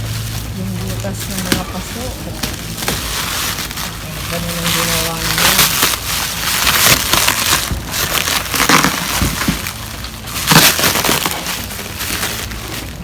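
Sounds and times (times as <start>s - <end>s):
packaging crackling and crunching: 0.0s - 13.0s.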